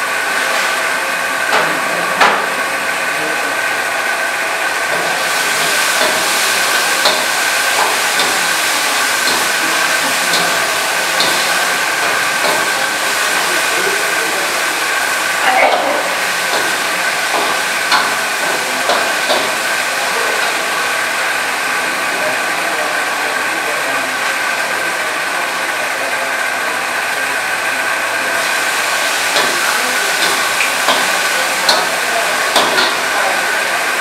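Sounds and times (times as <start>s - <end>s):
chicken sizzling in a wok: 0.0s - 3.0s, 3.6s - 22.6s, 26.3s - 34.0s.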